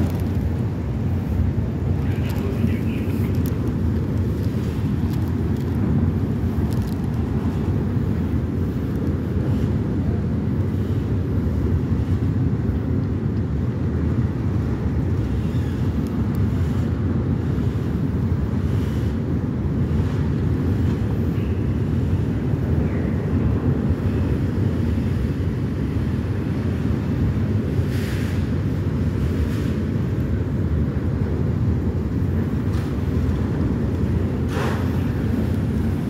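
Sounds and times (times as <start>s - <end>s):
ferry engines rumbling: 0.0s - 36.0s.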